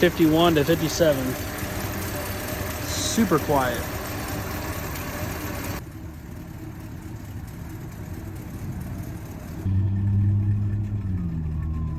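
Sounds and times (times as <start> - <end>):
car engine humming: 0.0 - 11.9.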